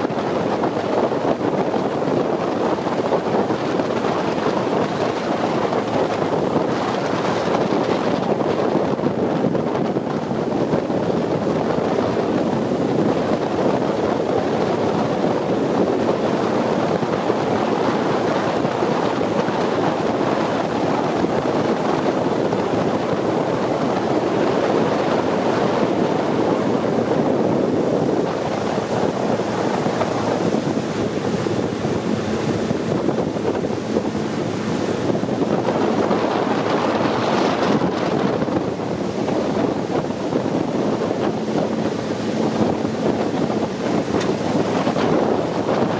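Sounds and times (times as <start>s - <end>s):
boat engine running: 0.0s - 45.9s
water rushing: 0.0s - 45.9s
wind buffeting microphone: 0.0s - 45.9s.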